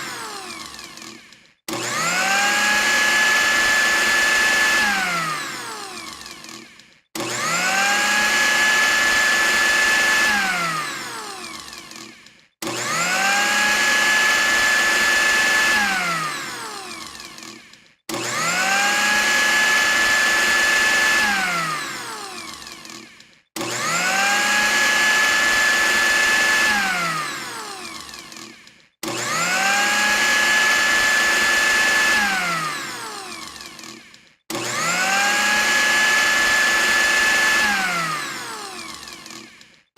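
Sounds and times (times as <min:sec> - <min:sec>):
blender motor whining: 0:00.0 - 0:39.9.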